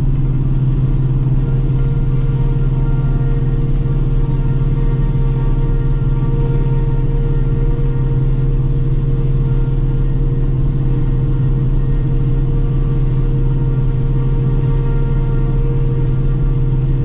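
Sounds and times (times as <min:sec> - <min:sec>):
low engine drone: 0:00.0 - 0:17.0
steady higher hum: 0:00.0 - 0:17.0.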